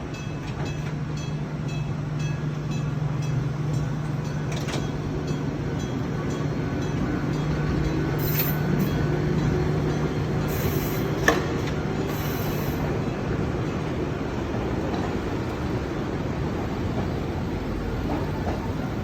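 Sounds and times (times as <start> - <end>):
electric train rolling past: 0.0 - 19.0.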